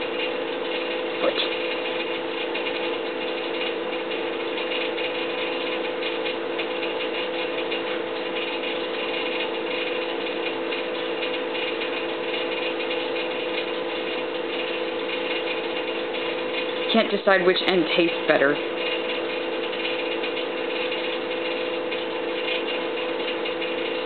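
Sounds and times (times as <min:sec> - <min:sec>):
machine humming and ticking: 0:00.0 - 0:24.0.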